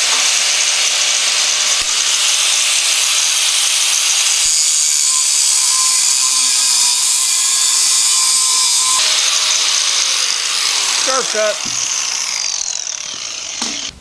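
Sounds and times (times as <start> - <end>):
power tool grinding steel: 0.0 - 14.0
steady motor whine: 0.0 - 14.0.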